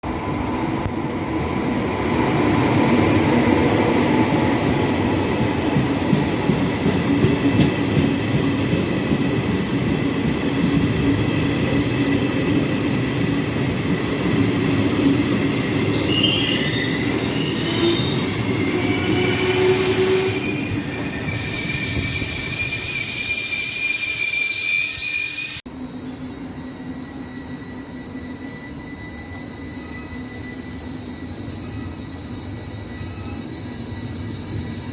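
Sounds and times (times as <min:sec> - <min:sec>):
train wheels squealing: 0:02.8 - 0:34.9.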